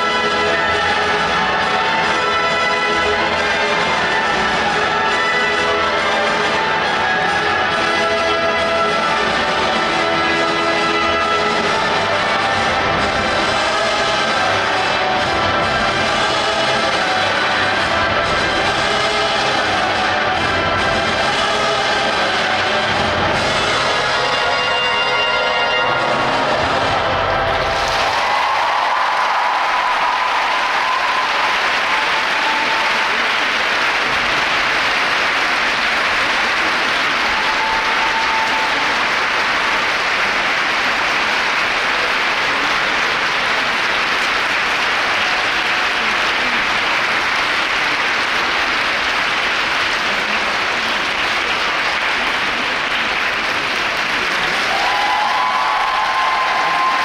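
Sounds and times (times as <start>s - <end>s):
audience applauding: 0.0s - 24.6s, 25.7s - 57.0s.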